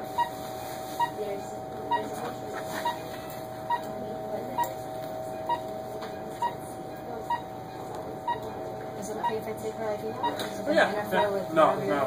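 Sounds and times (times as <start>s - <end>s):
medical equipment beeps: 0.0s - 12.0s.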